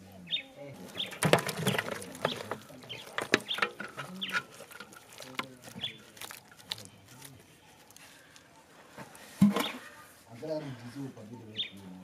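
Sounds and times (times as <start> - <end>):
chickens clucking: 0.3 - 10.2.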